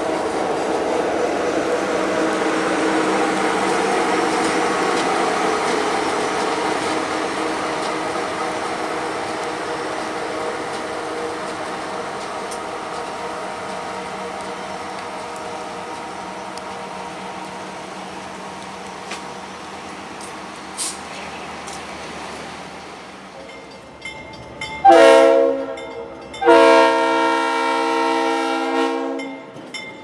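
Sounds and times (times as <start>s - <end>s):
diesel locomotive hum: 0.0s - 30.0s
train wheels rolling on rails: 0.0s - 30.0s.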